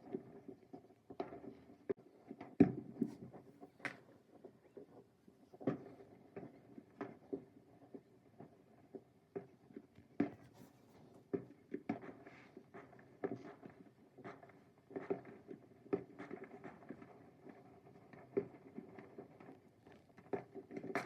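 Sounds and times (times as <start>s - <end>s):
distant fireworks popping: 0.0s - 21.0s.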